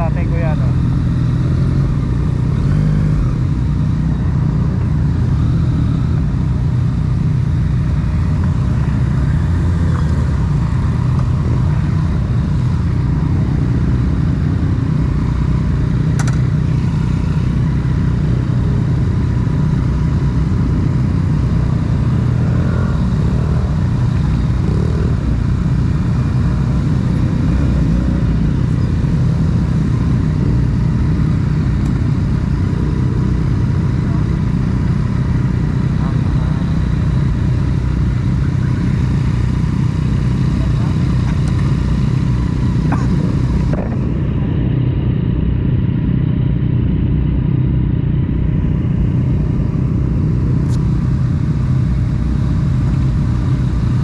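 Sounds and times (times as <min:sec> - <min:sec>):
motorcycle engine idling: 0:00.0 - 0:44.6.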